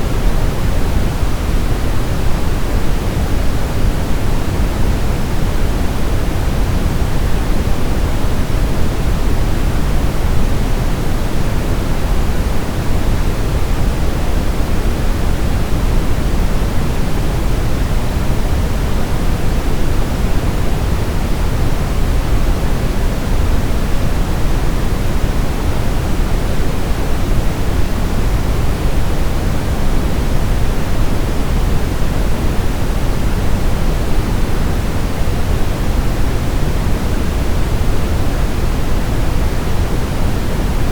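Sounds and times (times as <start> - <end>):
brown noise rumbling hiss: 0.0 - 40.9.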